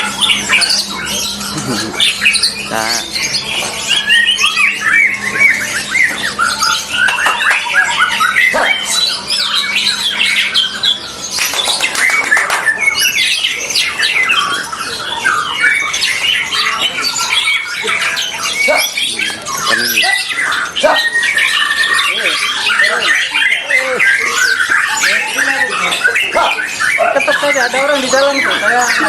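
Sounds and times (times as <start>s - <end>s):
many songbirds singing: 0.0s - 29.0s.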